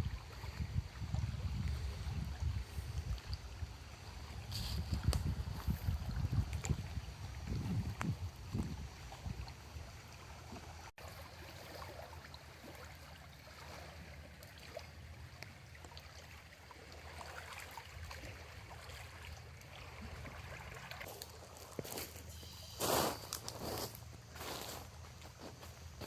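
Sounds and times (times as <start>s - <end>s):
water trickling and lapping: 0.0s - 26.0s.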